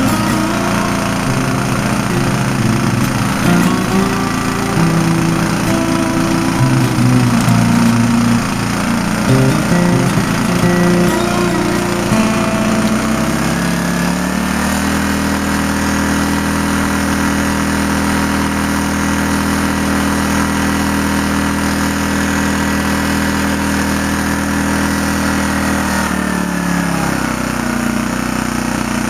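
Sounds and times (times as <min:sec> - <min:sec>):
generator engine running: 0:00.0 - 0:29.0.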